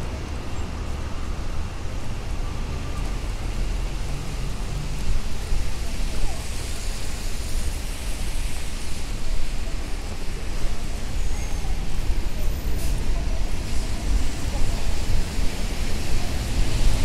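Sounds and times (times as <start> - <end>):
falling rain: 0.0 - 17.0
low rumble of engines: 0.0 - 17.0
tyres hissing on wet pavement: 0.0 - 17.0.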